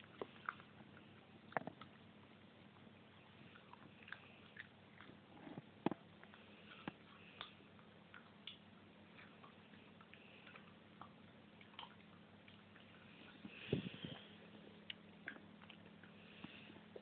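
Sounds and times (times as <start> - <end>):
puppy chewing: 0.0 - 17.0.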